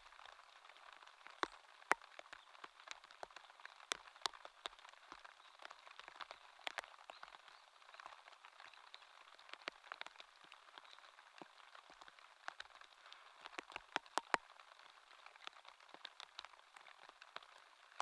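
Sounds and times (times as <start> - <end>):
light rain hissing: 0.0 - 18.0
raindrops tapping on a surface: 0.0 - 18.0.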